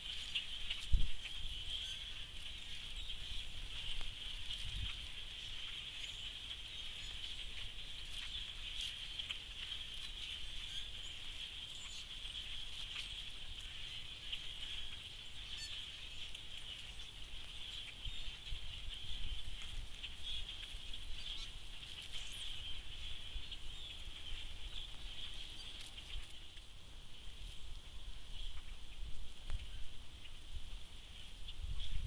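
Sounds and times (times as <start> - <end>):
flock of birds chattering: 0.0 - 32.0.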